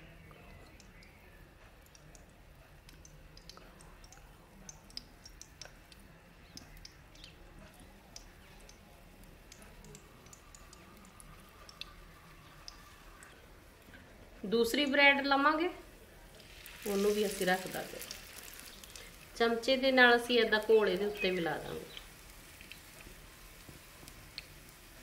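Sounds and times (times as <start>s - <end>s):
bread frying crackles: 0.0s - 25.0s.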